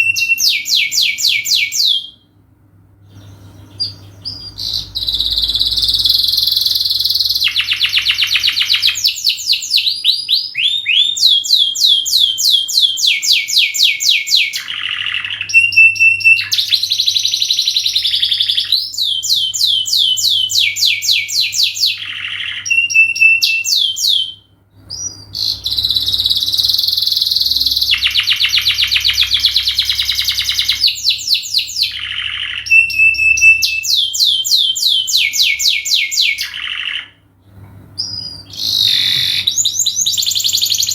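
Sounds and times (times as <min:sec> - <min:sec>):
canary singing trills: 0:00.0 - 0:02.3, 0:03.0 - 0:37.3, 0:38.0 - 0:40.9.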